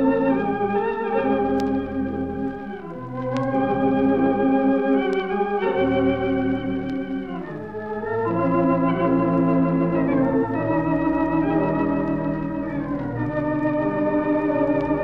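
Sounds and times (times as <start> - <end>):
theatre pipe organ chords: 0.0 - 15.0.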